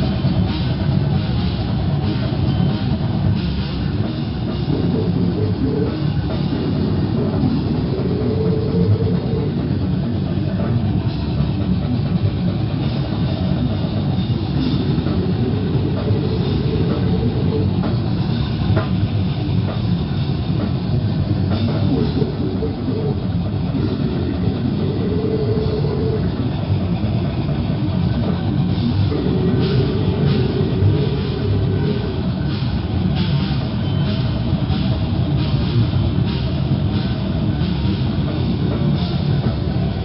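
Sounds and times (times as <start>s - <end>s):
distorted electric guitar: 0.0s - 40.0s
drum kit: 0.0s - 40.0s.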